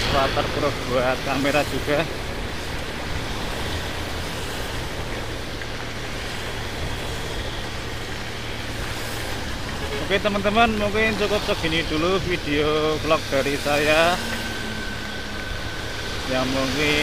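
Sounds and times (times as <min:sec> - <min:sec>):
motorcycle engine hum: 0:00.0 - 0:17.0
tyres on wet road: 0:00.0 - 0:17.0.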